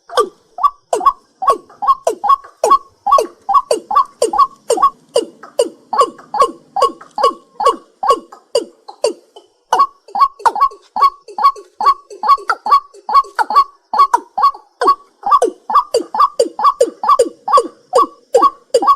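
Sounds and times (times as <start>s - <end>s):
night bird calling: 0.0s - 18.9s.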